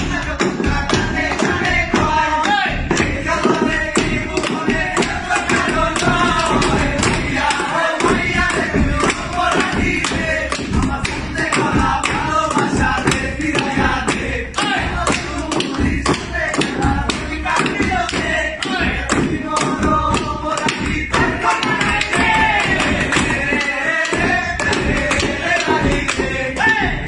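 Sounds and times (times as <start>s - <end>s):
men singing together: 0.0s - 27.0s.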